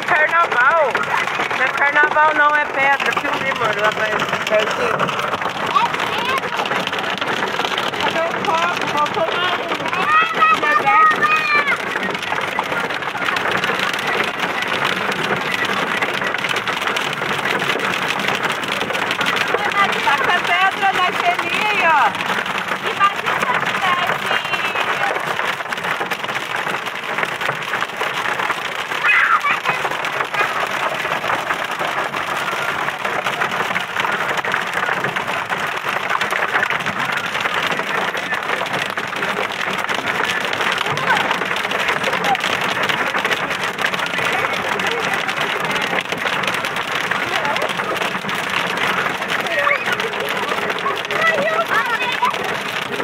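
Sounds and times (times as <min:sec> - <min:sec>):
hail and rain pelting a car: 0:00.0 - 0:53.0.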